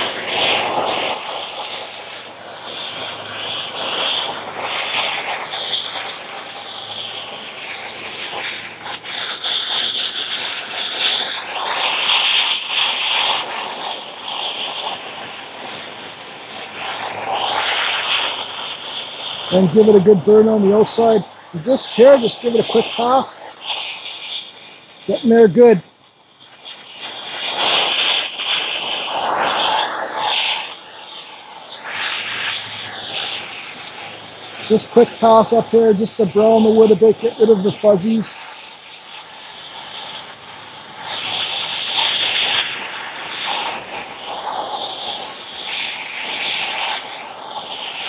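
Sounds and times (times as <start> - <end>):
propane torch flame hissing: 0.0 - 48.0.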